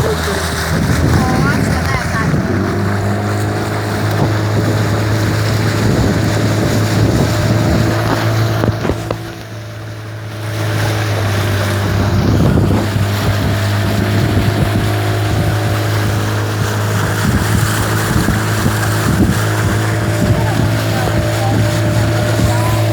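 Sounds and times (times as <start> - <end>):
outboard engine running: 0.0 - 22.9
water rushing along hull: 0.0 - 22.9
wind on microphone: 0.0 - 22.9.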